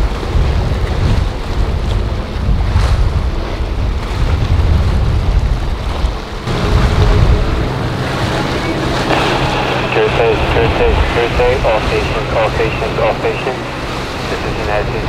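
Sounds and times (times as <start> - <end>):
hull splashing on waves: 0.0 - 15.0
outboard engine humming: 0.0 - 15.0
wind buffeting on microphone: 0.0 - 15.0.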